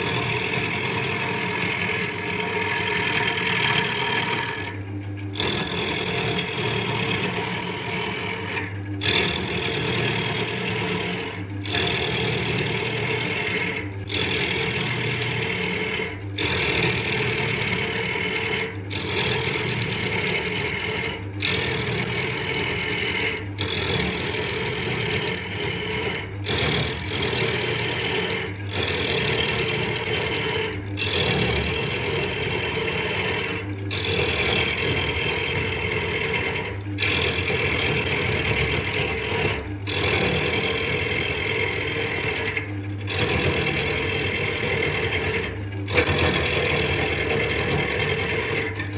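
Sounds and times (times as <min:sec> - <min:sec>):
tool scraping spinning wood: 0:00.0 - 0:48.9
wood lathe hum: 0:00.0 - 0:48.9.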